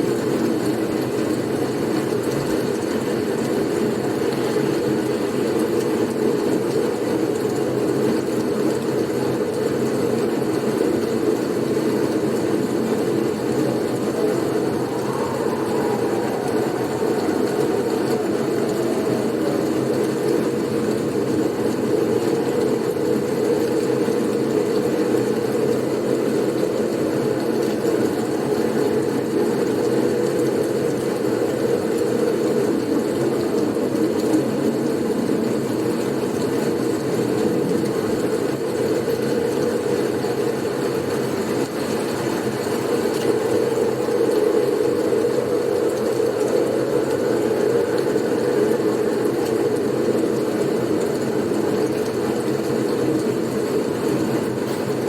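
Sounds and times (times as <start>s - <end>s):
snowstorm wind rushing: 10.0s - 55.0s.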